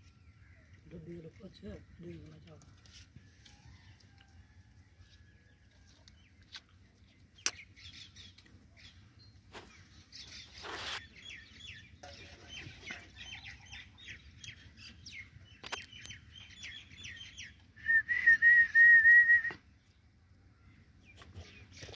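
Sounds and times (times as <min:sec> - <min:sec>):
small birds chirping: 0:00.0 - 0:17.8, 0:19.5 - 0:21.9.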